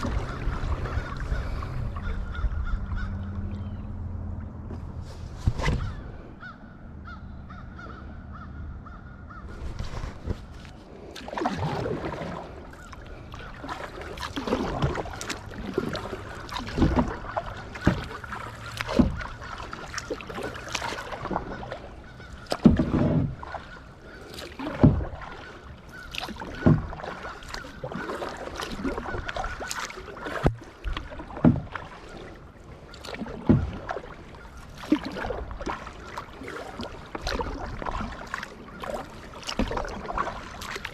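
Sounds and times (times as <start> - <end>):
kayak paddle splashing: 0.0 - 6.5, 9.4 - 40.9.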